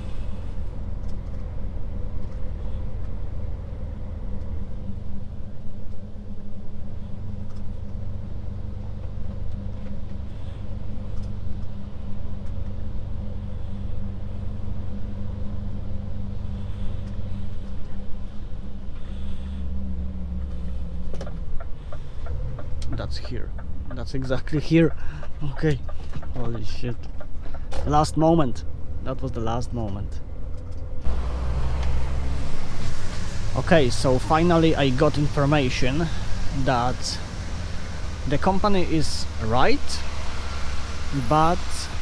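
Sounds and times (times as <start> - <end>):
truck diesel engine hum: 0.0 - 42.0.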